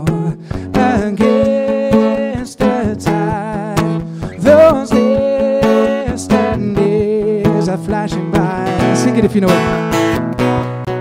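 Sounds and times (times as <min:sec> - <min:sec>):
man singing: 0:00.0 - 0:10.1
acoustic guitar strumming: 0:00.0 - 0:11.0.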